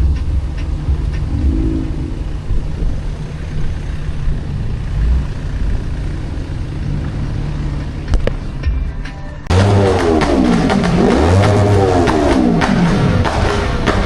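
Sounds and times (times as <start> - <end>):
car engine and exhaust rumble: 0.0 - 14.0.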